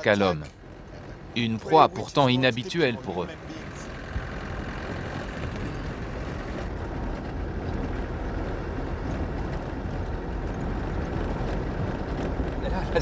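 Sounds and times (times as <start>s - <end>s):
vehicle driving on dirt track: 0.0s - 13.0s.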